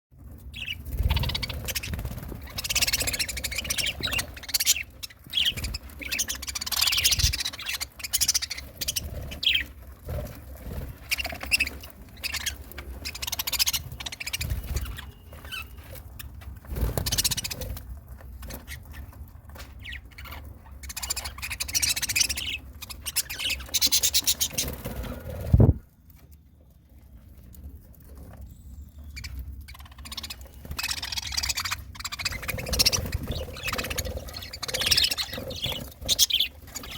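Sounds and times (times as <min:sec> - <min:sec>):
budgerigars chirping: 0:00.5 - 0:09.8, 0:10.9 - 0:17.7, 0:18.5 - 0:25.0, 0:29.0 - 0:36.9.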